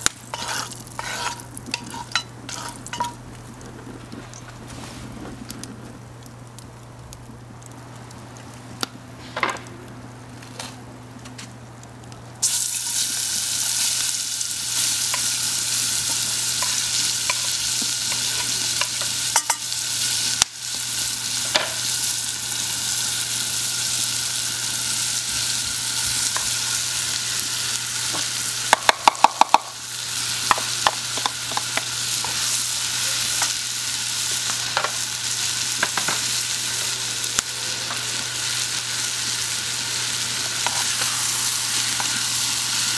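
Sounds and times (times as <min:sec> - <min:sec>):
onions sizzling in hot oil: 0:00.0 - 0:04.5, 0:12.4 - 0:42.9.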